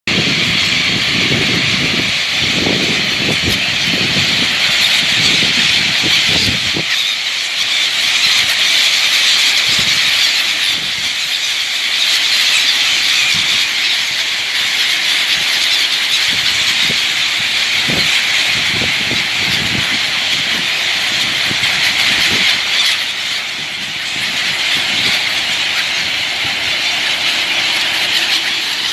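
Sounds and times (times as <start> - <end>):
large flock of birds calling: 0.1 - 28.9.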